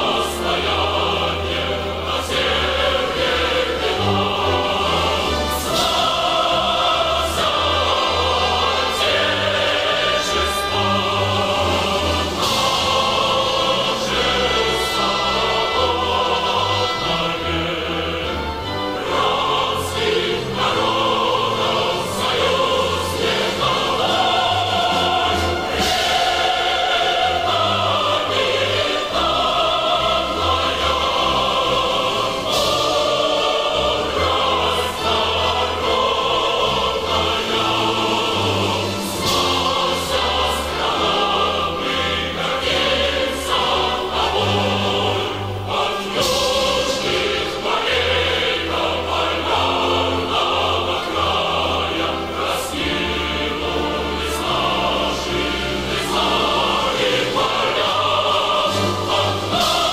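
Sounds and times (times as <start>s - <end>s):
choir singing sustained notes: 0.0s - 59.9s.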